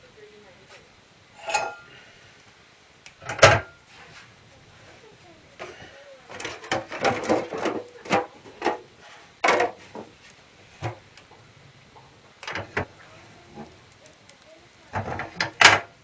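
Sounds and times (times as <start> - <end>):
knocks and clatters at wood stove: 1.4 - 2.1, 3.0 - 16.0.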